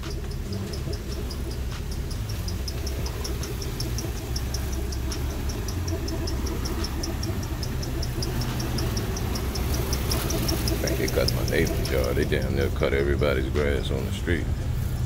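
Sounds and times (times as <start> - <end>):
car engine idling: 0.0 - 15.0
crickets chirping: 0.0 - 15.0.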